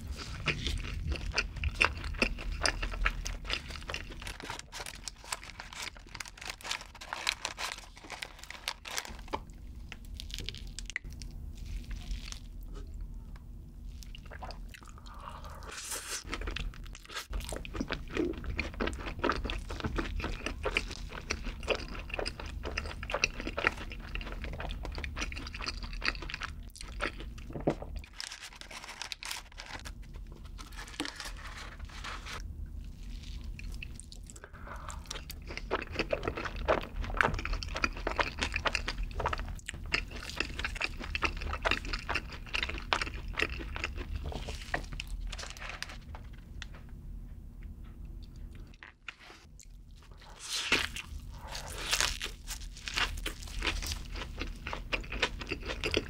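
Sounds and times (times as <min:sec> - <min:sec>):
chewing and crunching fries: 0:00.0 - 0:13.2, 0:13.8 - 0:46.8, 0:47.9 - 0:56.0.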